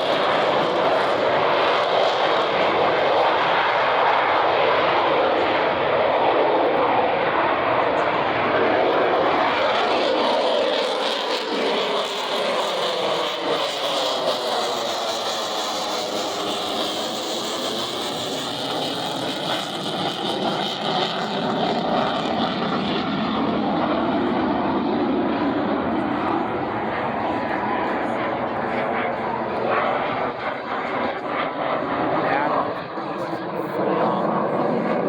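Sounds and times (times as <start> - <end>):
fighter jet engine roar: 0.0 - 35.0.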